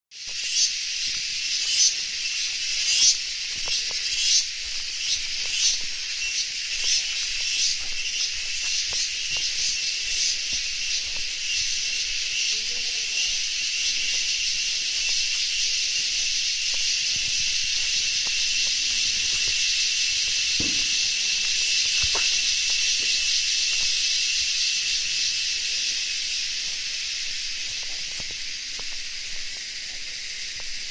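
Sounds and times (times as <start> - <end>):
crickets chirping: 0.1 - 30.9.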